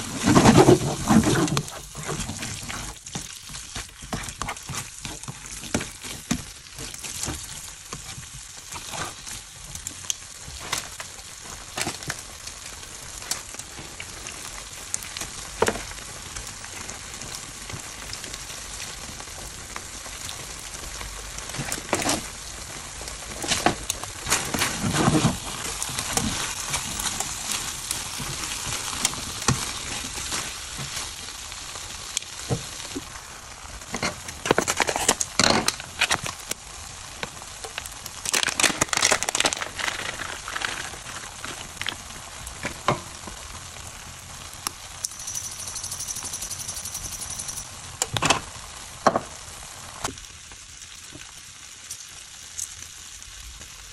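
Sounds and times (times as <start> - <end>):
noodles sizzling in pan: 0.0 - 53.9.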